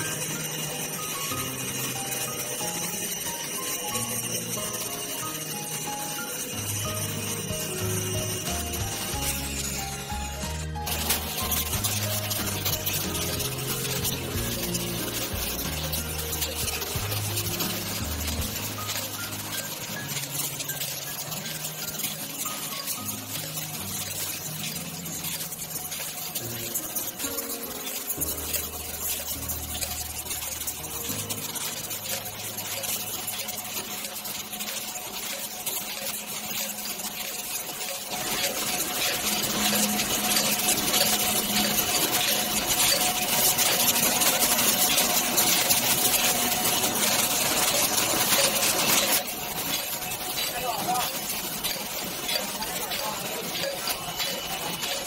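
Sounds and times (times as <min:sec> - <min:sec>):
background music with low notes: 0:00.0 - 0:55.0
factory machinery clatter and whine: 0:00.0 - 0:55.0.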